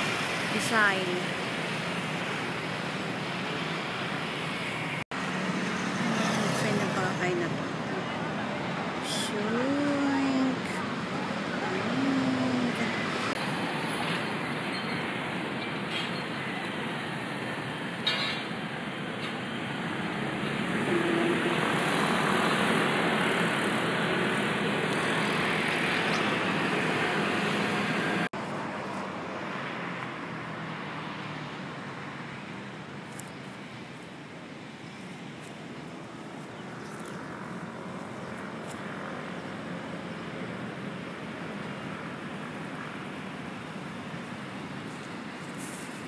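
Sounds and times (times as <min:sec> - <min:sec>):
distant city traffic: 0:00.0 - 0:46.0.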